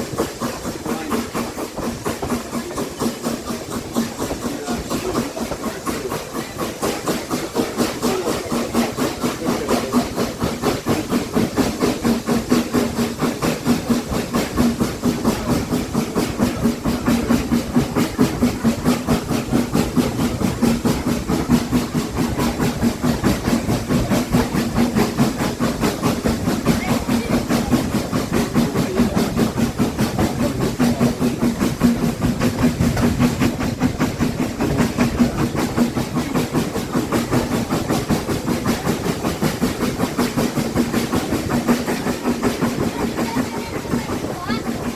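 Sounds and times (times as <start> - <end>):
steady steam hiss: 0.0 - 44.9
steam locomotive exhaust beats: 0.0 - 44.9.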